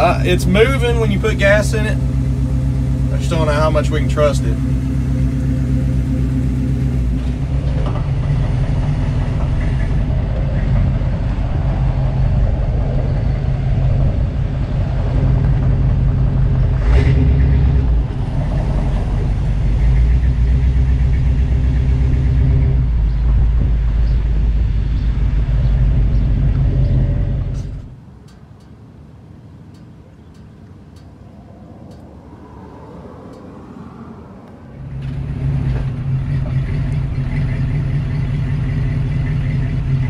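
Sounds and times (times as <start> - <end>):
truck engine driving off: 0.0 - 28.0, 30.9 - 40.0.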